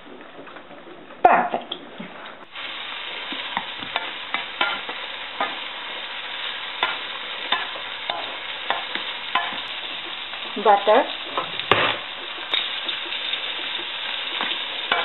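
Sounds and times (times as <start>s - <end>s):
steady hiss: 2.4s - 15.0s.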